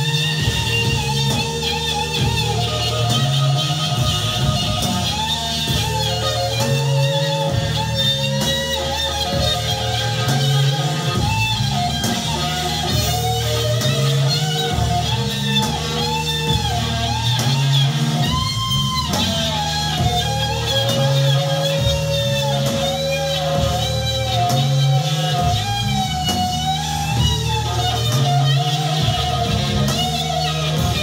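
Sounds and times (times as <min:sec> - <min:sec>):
electric guitar melody: 0:00.0 - 0:31.0
repeating bass notes: 0:00.0 - 0:31.0.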